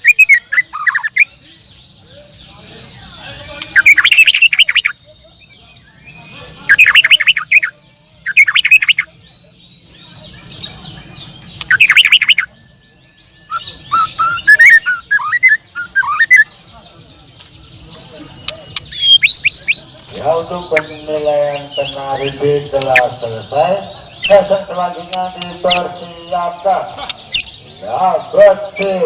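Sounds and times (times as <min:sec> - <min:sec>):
songbirds chirping and warbling: 0:00.0 - 0:29.0.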